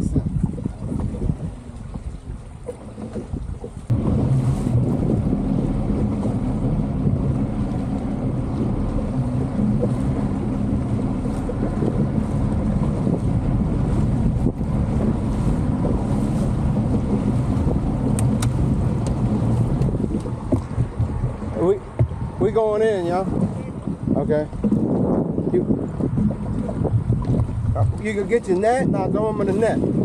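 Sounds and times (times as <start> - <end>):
boat motor running: 0.0 - 30.0
wind buffeting microphone: 0.0 - 30.0.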